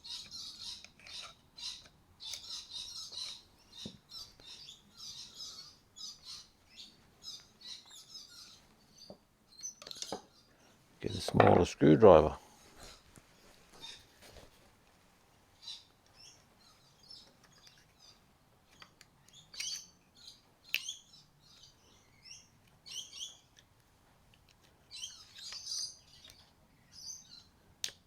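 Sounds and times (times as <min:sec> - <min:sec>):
small birds chirping: 0:00.0 - 0:14.6, 0:15.3 - 0:28.0.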